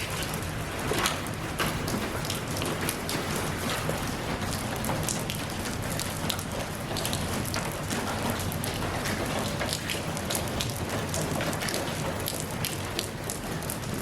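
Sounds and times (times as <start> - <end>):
raindrops ticking on hard surface: 0.0 - 14.0.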